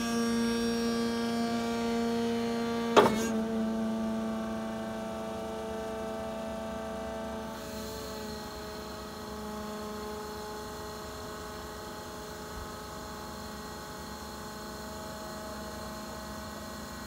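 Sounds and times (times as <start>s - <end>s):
forklift hum and whine: 0.0s - 17.0s.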